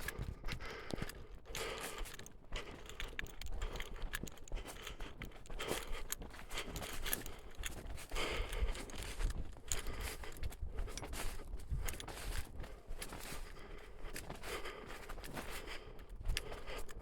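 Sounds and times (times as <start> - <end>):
footsteps crunching on dry ground: 0.0 - 17.0.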